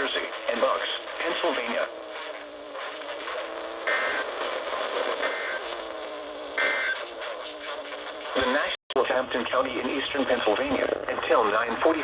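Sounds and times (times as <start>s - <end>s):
radio broadcast hiss: 0.0s - 12.0s.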